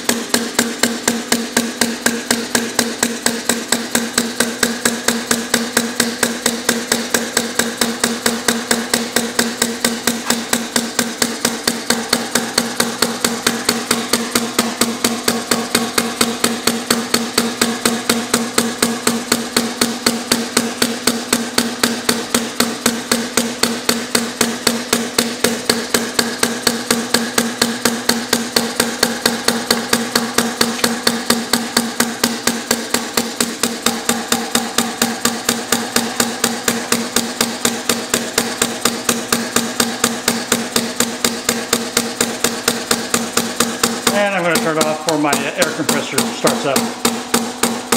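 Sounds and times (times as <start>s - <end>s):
air engine knocking puffs: 0.0s - 47.9s.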